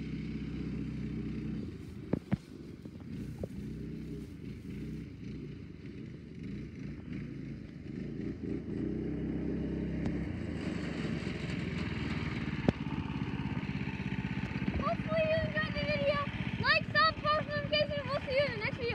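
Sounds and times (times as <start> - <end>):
go-kart engine running: 0.0 - 18.9.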